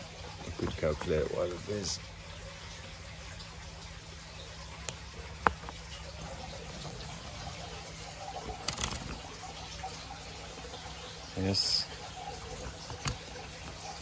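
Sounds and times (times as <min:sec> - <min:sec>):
water drip plinking: 0:00.0 - 0:14.0
water trickling: 0:00.0 - 0:14.0.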